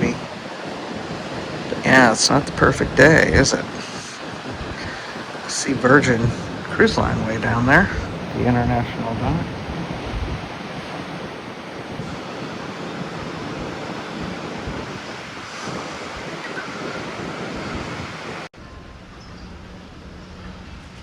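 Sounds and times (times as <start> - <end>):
wind gusting over microphone: 0.0 - 21.0.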